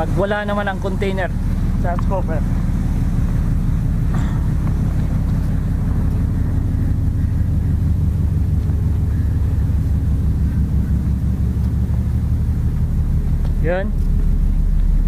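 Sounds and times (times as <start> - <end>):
ship machinery hum: 0.0 - 15.0.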